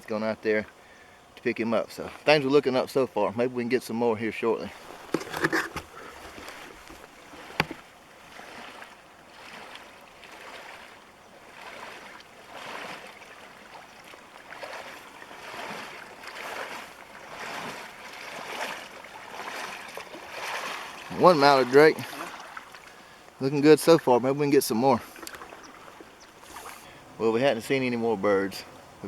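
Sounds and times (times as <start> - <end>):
wading through shallow water: 0.0 - 29.0.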